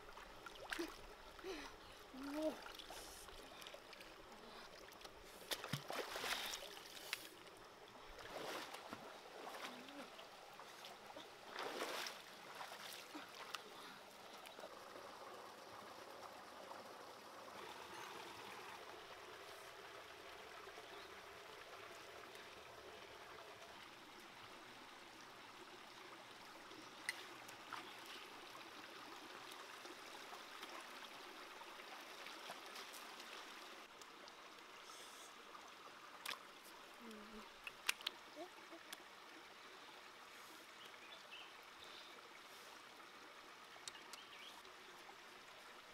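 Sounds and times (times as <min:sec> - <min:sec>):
stream flowing over rocks: 0:00.0 - 0:45.9.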